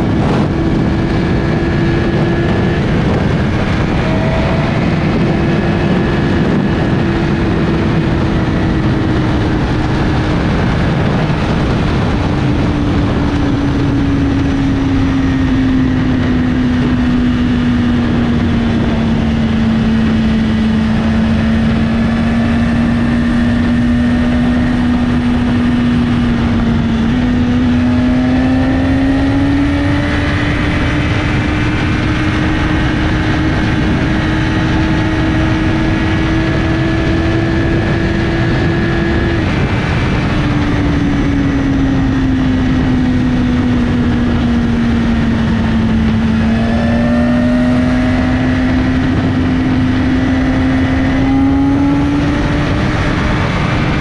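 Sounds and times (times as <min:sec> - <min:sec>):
motorcycle engine cruising: 0:00.0 - 0:54.0
wind rushing: 0:00.0 - 0:54.0.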